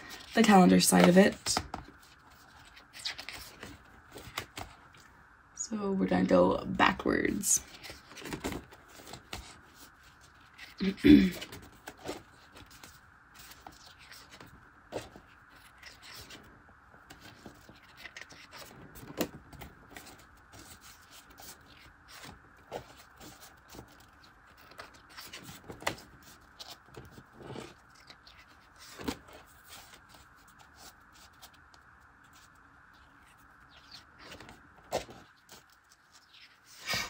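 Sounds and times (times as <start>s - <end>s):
calendar pages flipping: 0.1s - 5.1s, 7.6s - 37.0s.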